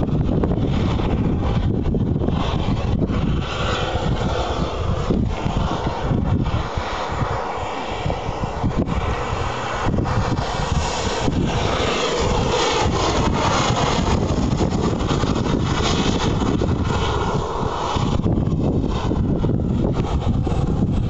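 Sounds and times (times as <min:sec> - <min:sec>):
model helicopter rotor and engine: 0:00.0 - 0:21.0
wind buffeting microphone: 0:00.0 - 0:21.0.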